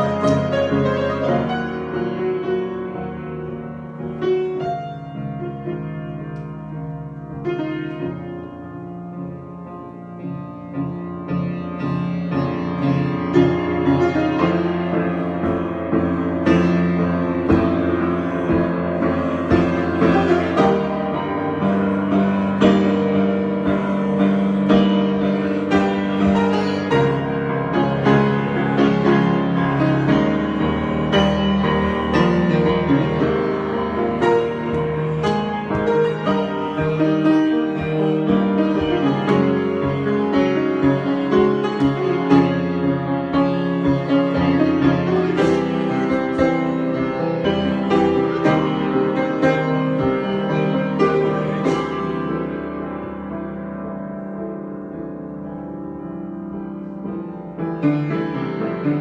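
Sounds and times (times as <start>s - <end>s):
solo piano improvisation: 0.0s - 59.0s.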